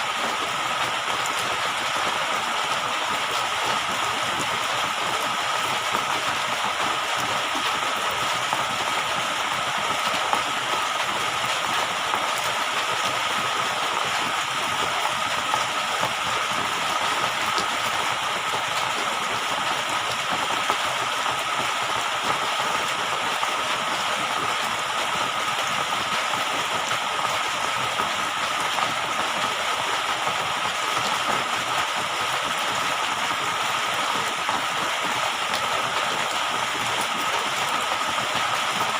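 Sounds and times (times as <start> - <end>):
rushing hissing water: 0.0 - 38.9.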